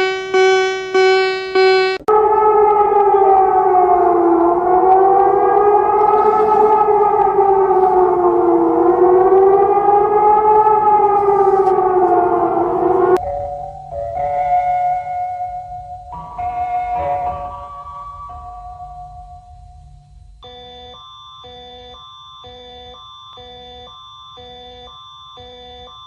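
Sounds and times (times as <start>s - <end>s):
warning siren wailing: 0.0s - 19.2s, 20.4s - 26.0s.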